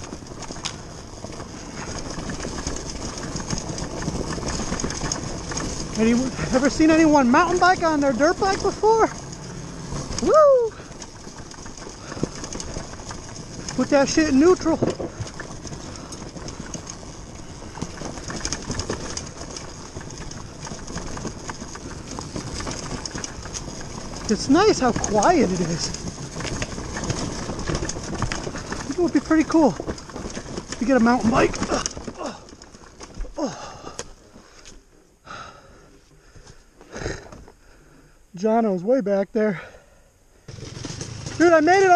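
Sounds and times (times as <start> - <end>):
chassis rattling and knocking: 0.0 - 33.4, 40.5 - 41.9
tyres rolling over dirt: 0.0 - 41.9.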